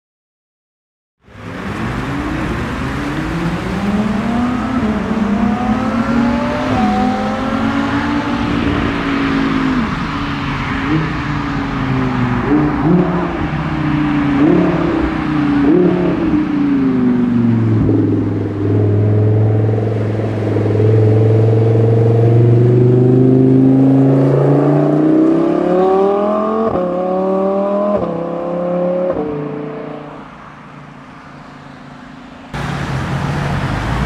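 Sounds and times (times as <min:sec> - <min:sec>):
sports car engines approaching: 0:01.2 - 0:34.0
engine revving through upshifts: 0:01.4 - 0:30.2.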